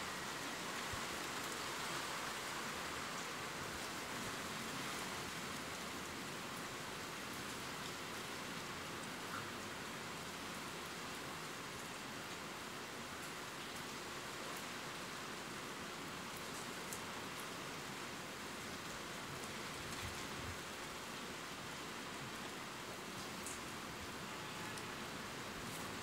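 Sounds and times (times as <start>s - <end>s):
rain patters: 0.0s - 26.0s
steady rain hiss: 0.0s - 26.0s.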